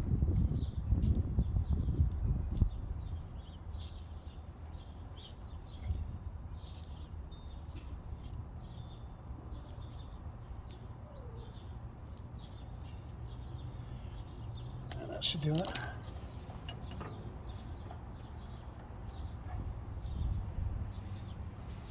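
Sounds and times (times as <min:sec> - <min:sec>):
small birds chirping: 0:00.3 - 0:21.9.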